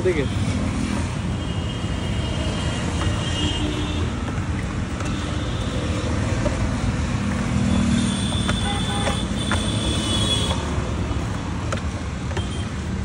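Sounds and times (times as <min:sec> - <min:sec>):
deep road traffic noise: 0:00.0 - 0:13.0.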